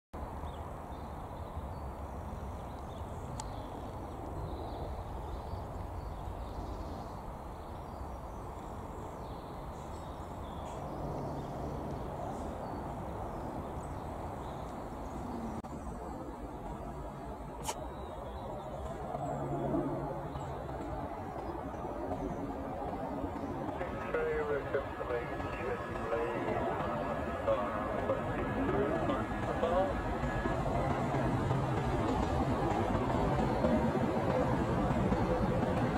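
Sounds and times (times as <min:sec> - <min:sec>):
small birds chirping: 0:00.4 - 0:35.9
turboprop aircraft drone: 0:02.6 - 0:35.9.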